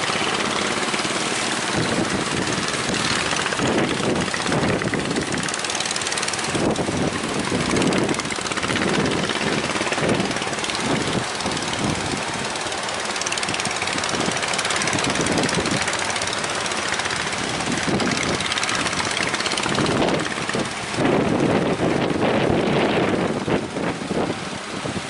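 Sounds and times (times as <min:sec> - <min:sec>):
speedboat engine running: 0:00.0 - 0:25.0
wind buffeting microphone: 0:00.0 - 0:25.0.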